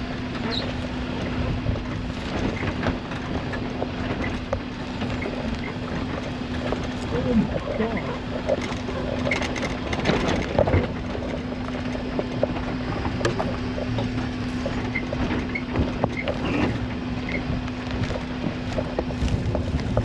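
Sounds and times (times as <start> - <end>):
off-road vehicle engine drone: 0.0 - 20.0
knocks and rattles: 0.3 - 20.0.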